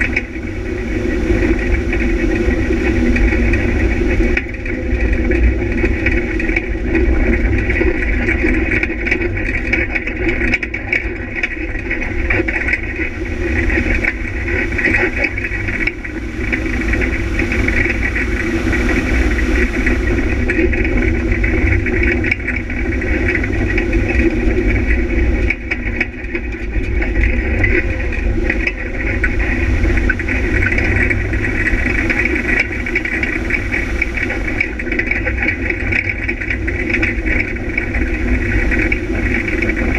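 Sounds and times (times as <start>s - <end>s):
low rumble: 0.0s - 39.9s
vehicle engine driving on gravel: 0.0s - 39.9s.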